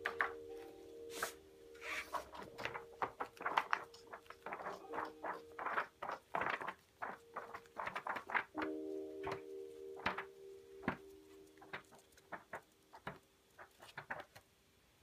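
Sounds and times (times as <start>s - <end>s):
book pages turning: 0.0s - 14.4s.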